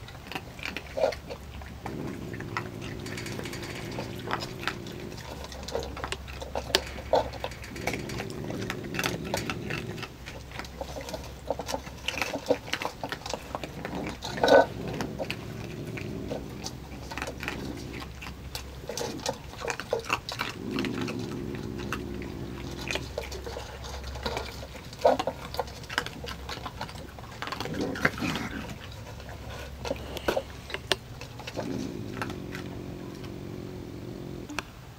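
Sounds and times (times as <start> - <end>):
animals crunching dry kibble: 0.0 - 34.9
raccoons churring and growling: 0.0 - 34.9.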